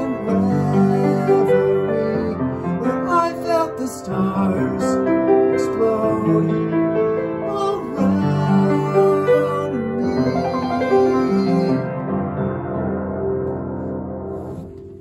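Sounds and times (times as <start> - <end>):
man singing: 0.0 - 12.3
upright piano pop accompaniment: 0.0 - 15.0.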